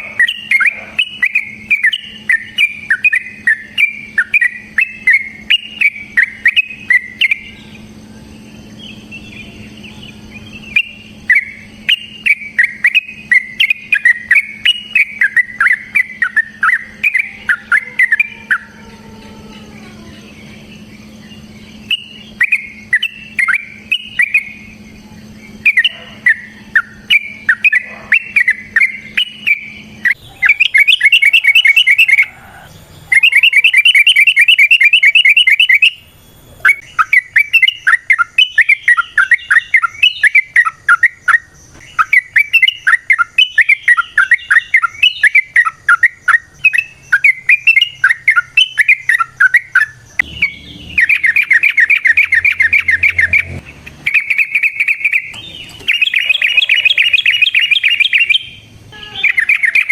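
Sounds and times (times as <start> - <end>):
bird chattering: 0.0 - 7.9, 8.8 - 18.9, 20.0 - 59.9
bird singing rattling trills: 0.0 - 59.9.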